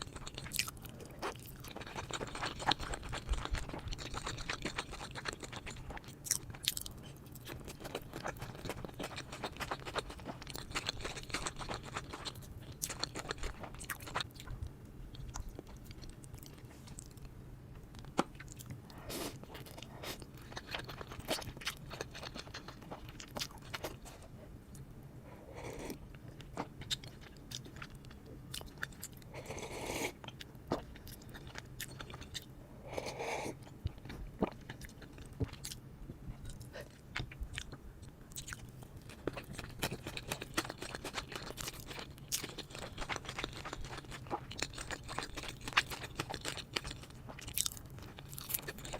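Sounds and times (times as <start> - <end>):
crunching and chewing food: 0.0 - 48.9.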